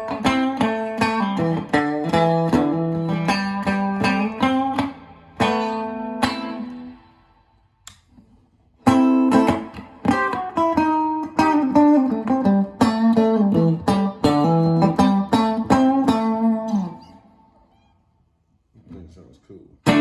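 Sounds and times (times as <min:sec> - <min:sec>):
solo guitar playing: 0:00.0 - 0:07.5, 0:08.8 - 0:18.0.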